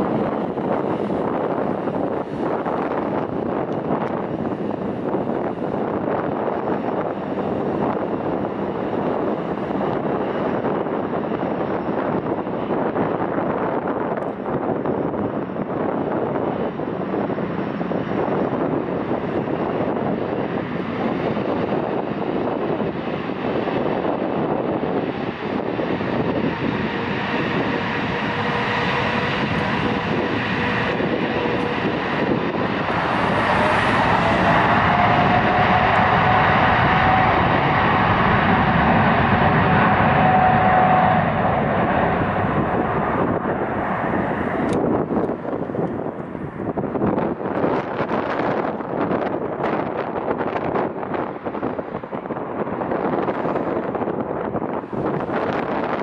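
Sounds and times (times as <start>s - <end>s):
jet engines running: 0.0s - 56.0s
jet engines spooling up: 0.0s - 56.0s.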